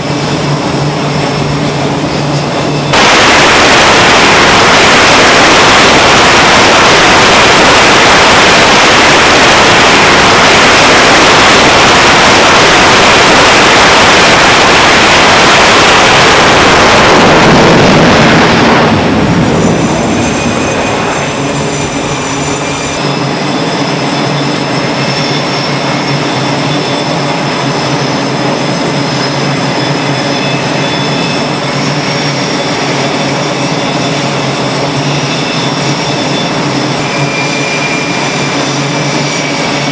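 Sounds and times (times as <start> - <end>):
high-pitched turbine whine: 0.0 - 39.9
jet engines roaring: 0.0 - 39.9.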